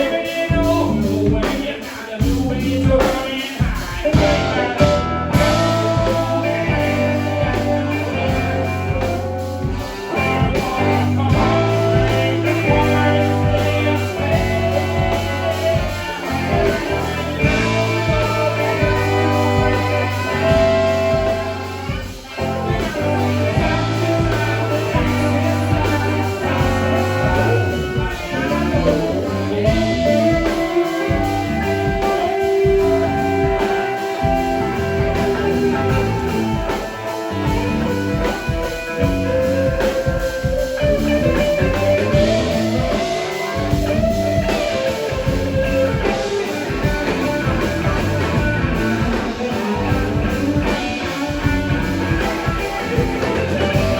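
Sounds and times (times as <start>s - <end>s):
blues-rock band playing: 0.0s - 53.9s
electric guitar melody: 0.0s - 53.9s.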